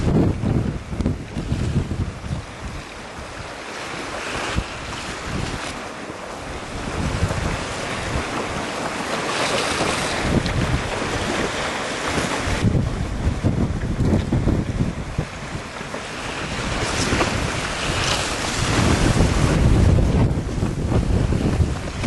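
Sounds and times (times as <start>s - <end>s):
wind buffeting microphone: 0.0s - 22.0s
wind over choppy water: 0.0s - 22.0s.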